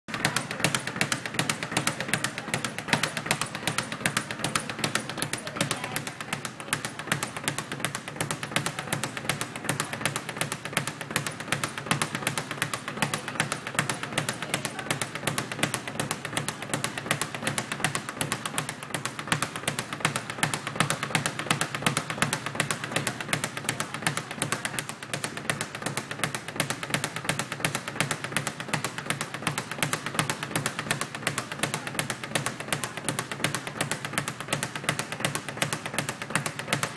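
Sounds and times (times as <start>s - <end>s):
speed bag rattling: 0.1s - 36.9s.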